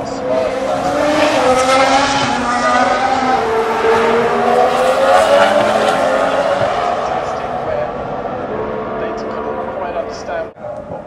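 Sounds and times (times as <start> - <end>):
racing car engine passing: 0.0 - 10.6.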